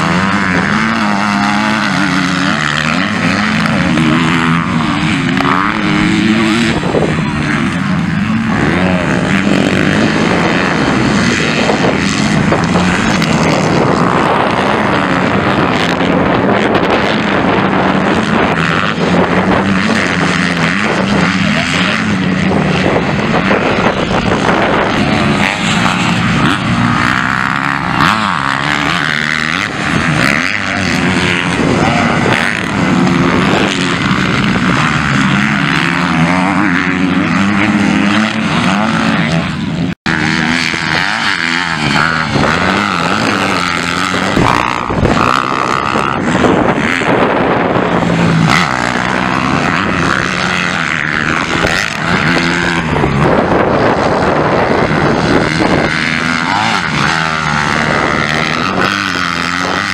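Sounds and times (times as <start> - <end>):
motocross engines revving: 0.0 - 59.9.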